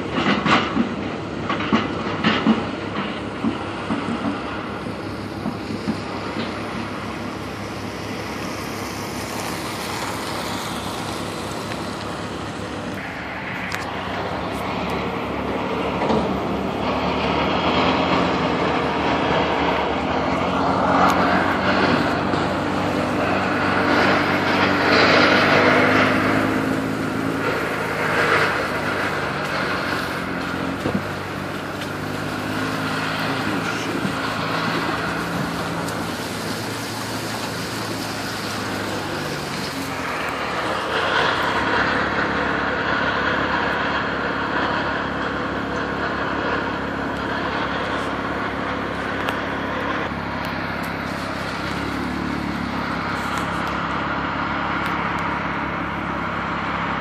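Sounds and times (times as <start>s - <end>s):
motor engine running: 0.0s - 57.0s
outdoor rumble: 0.0s - 57.0s.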